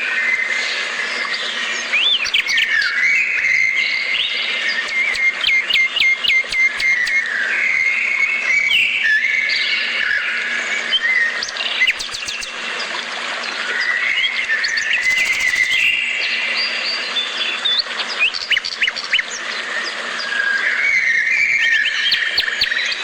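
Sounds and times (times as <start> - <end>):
birds whistling: 0.2 - 13.0, 13.7 - 23.0.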